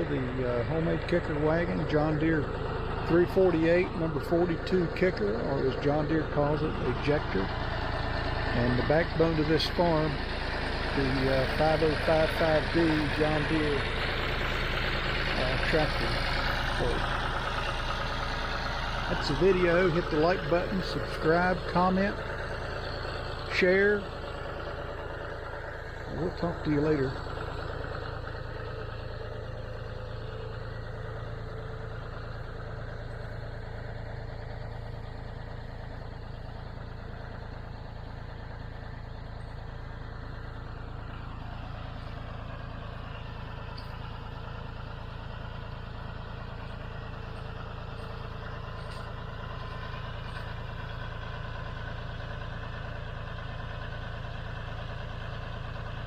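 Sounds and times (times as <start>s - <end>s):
tractor diesel engine idling: 0.0s - 56.0s.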